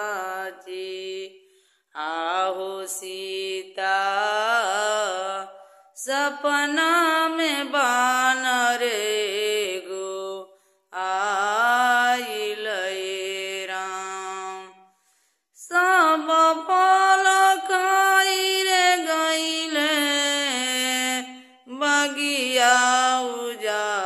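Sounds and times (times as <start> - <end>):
woman singing unaccompanied: 0.0 - 1.3, 2.0 - 14.7, 15.6 - 24.0.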